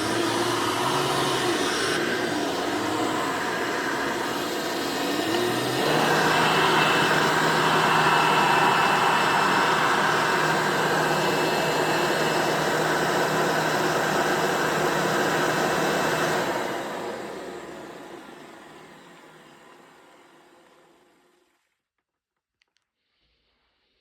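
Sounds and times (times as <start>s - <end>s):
motor winding down: 0.0s - 21.1s
vacuum cleaner running: 0.0s - 21.4s.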